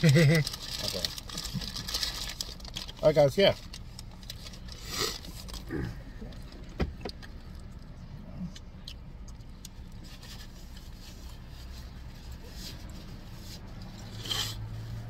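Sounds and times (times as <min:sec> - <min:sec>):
eating and handling noises: 0:00.0 - 0:15.0
car cabin low hum: 0:01.2 - 0:15.0.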